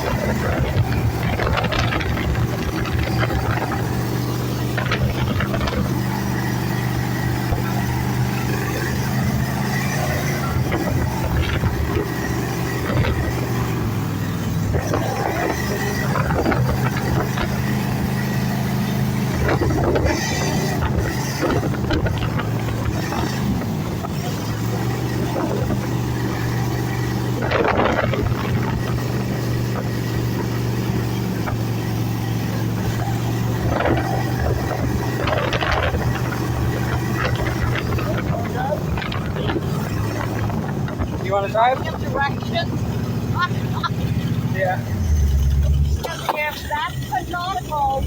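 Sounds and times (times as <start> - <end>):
jet boat engine running: 0.0 - 48.0
water noise: 0.0 - 48.0
wind: 0.0 - 48.0.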